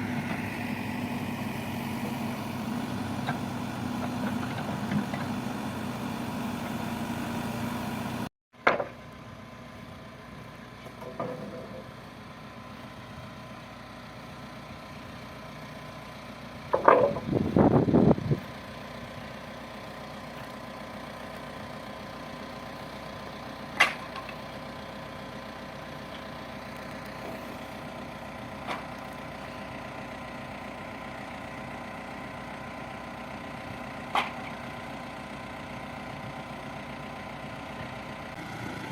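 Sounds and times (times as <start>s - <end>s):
diesel engine idling: 0.0s - 8.3s, 11.6s - 38.9s.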